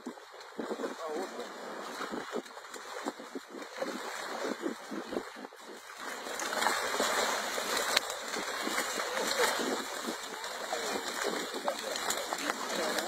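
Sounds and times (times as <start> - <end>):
fish splashing in a net: 0.1 - 13.0.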